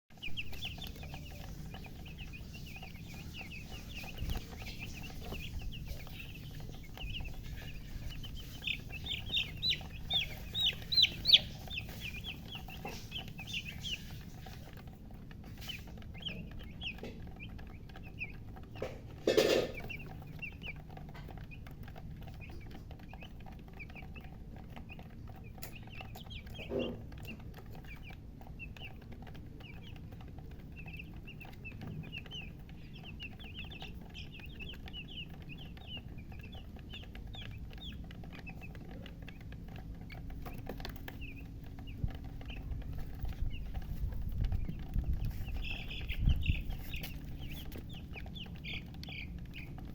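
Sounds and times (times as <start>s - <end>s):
chicks peeping: 0.1s - 49.9s.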